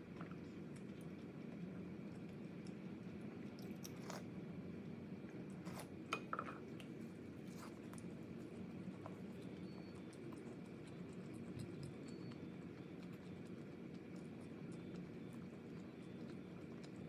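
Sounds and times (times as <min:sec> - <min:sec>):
close chewing: 0:00.0 - 0:06.0, 0:06.6 - 0:17.0.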